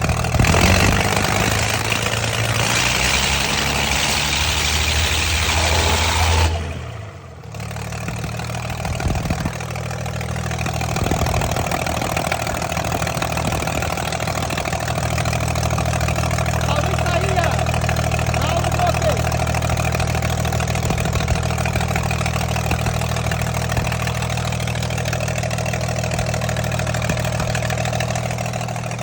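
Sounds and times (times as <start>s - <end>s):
heavy engine idling: 0.0s - 29.0s.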